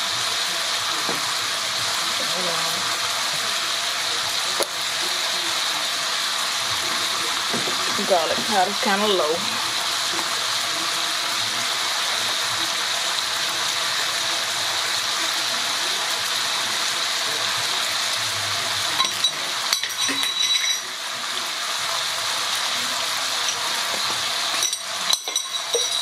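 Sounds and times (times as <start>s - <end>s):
chicken sizzling in skillet: 0.0s - 26.0s.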